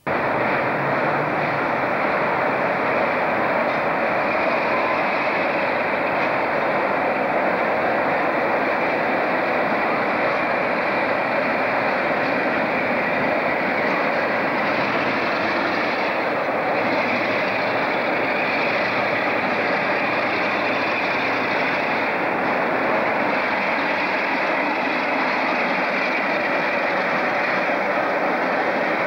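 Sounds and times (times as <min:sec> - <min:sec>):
train running through station: 0:00.0 - 0:29.0.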